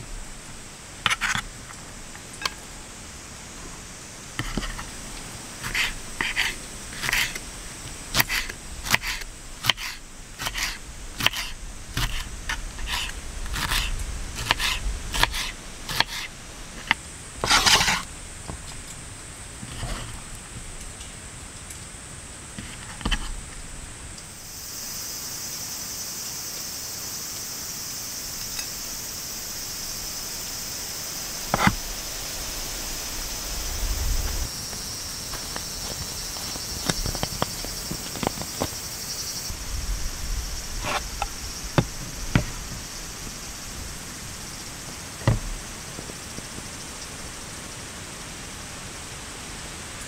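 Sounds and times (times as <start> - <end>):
insects buzzing: 0.0 - 48.6.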